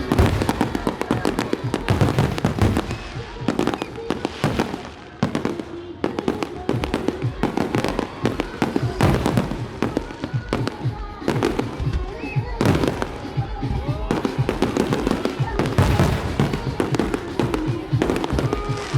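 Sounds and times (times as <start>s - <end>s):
fireworks banging: 0.0s - 18.9s
music: 0.0s - 18.9s
voices: 0.0s - 18.9s.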